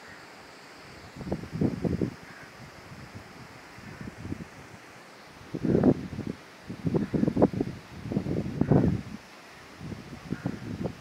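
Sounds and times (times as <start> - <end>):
wind gusting against microphone: 0.0 - 11.0
wind hissing through palm fronds: 0.0 - 11.0.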